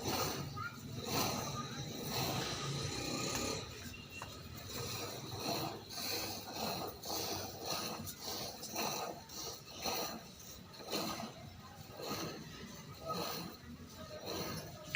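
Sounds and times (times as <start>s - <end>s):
rhythmic rubbing strokes: 0.0s - 14.9s.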